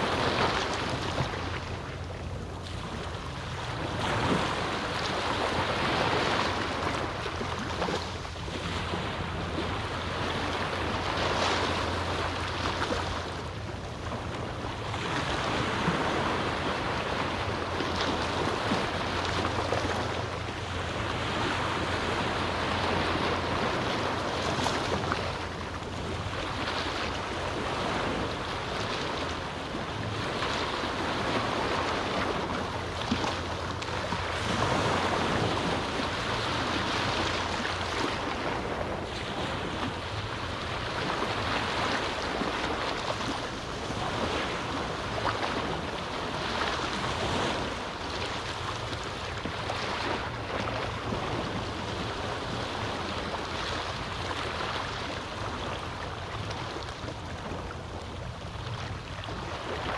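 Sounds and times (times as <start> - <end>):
small waves breaking on a beach: 0.0 - 59.9.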